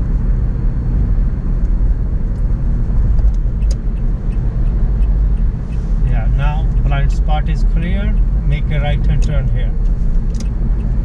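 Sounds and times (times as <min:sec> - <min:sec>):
car engine rumble: 0:00.0 - 0:11.0
tyres on road: 0:00.0 - 0:11.0.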